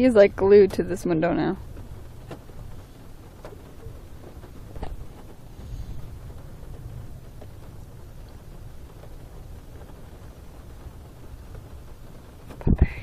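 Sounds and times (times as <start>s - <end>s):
low rumble in car cabin: 0.0s - 13.0s.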